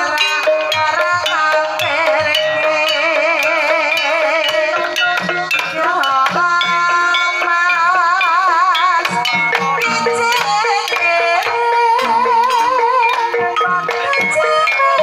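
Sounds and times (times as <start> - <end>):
gamelan ensemble: 0.0 - 15.0
woman singing with vibrato: 0.0 - 15.0.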